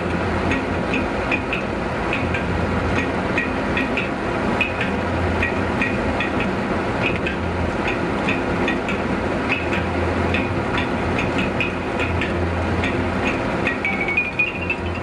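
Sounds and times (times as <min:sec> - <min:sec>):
road and engine noise in car: 0:00.0 - 0:15.0.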